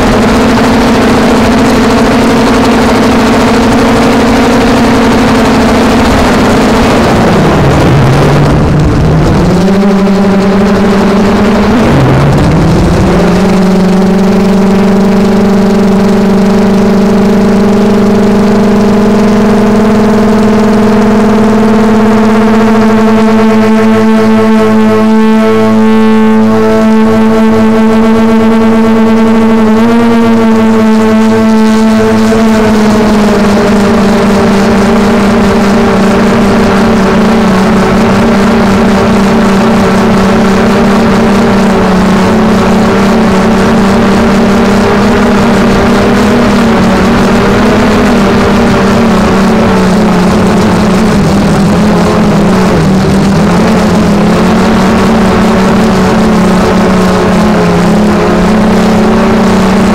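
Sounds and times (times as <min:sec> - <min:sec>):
drone propellers whining: 0:00.0 - 0:59.9.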